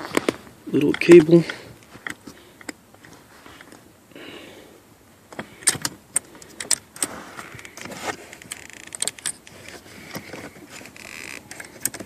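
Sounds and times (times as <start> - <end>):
seat belt buckle clicks and rattles: 0.1 - 3.8, 5.3 - 12.0.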